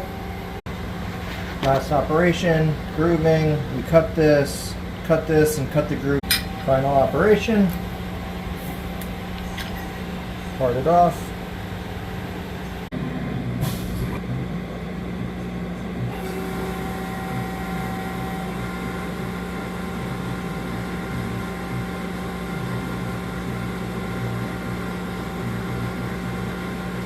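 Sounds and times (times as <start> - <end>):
lathe machine hum: 0.0 - 27.0
motor whine: 2.2 - 27.0.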